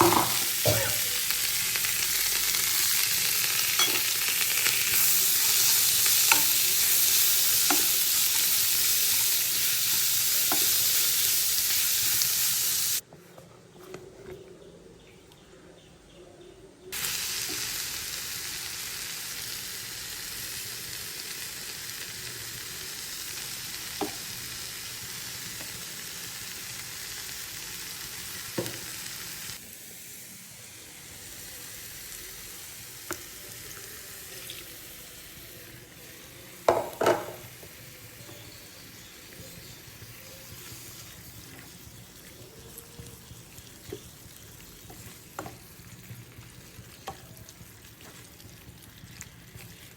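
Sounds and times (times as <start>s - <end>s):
food sizzling in hot oil: 0.0s - 13.0s, 17.0s - 49.9s.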